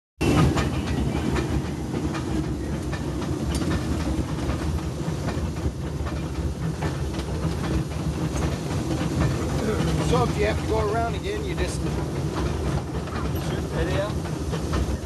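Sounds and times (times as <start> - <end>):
train rumbling on track: 0.2 - 15.0
wheels clicking over rails: 0.2 - 15.0.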